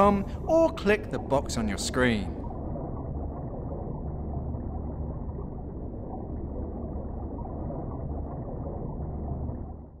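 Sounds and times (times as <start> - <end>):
deep hum: 0.0 - 10.0
low steady rumble: 0.0 - 10.0.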